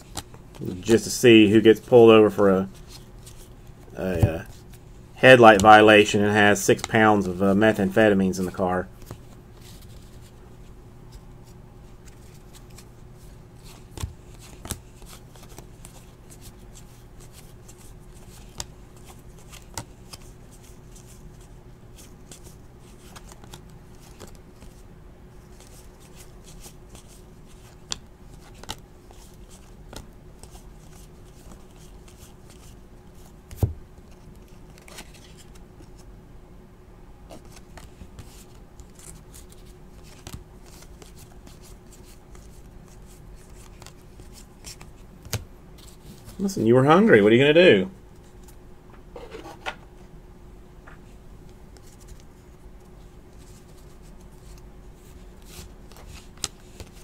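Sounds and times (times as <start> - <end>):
trading cards rustling: 0.0 - 24.8, 25.4 - 36.0, 37.3 - 48.6, 51.8 - 57.0.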